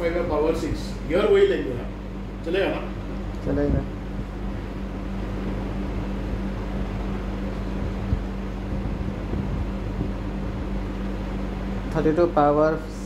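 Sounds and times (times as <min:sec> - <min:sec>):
machine hum and hiss: 0:00.0 - 0:13.0.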